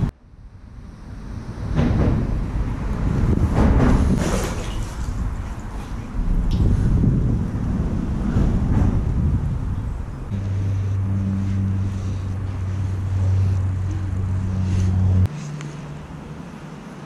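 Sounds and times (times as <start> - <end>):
wind rumble on microphone: 0.0 - 15.3
low mechanical hum: 0.0 - 17.0.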